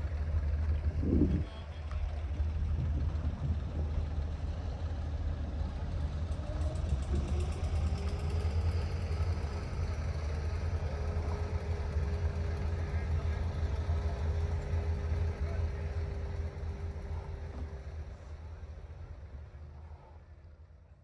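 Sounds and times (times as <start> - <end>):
large engine idling: 0.0 - 21.0.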